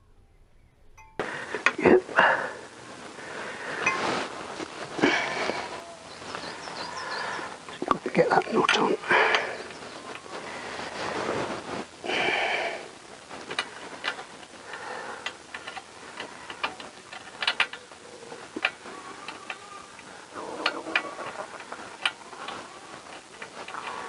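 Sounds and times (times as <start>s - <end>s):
rustling noise: 1.2s - 24.0s.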